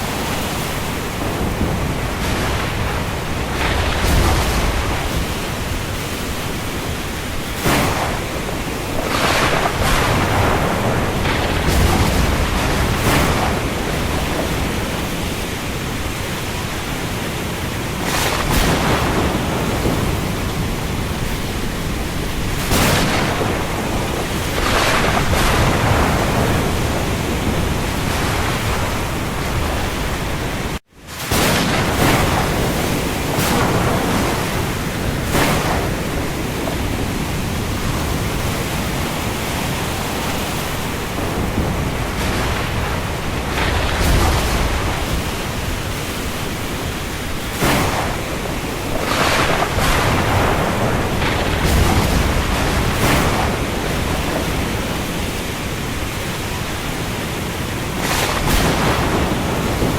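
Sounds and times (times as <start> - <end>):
rain falling on the sea: 0.0 - 59.9.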